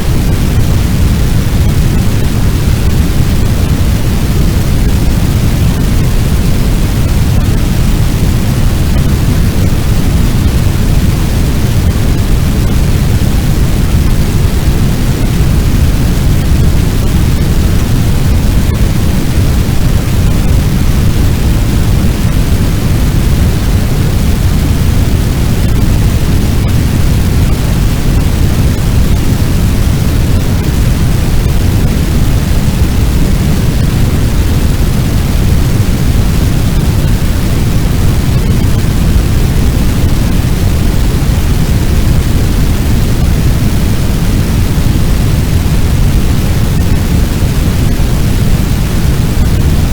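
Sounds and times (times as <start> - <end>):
large fire burning: 0.2 - 49.9.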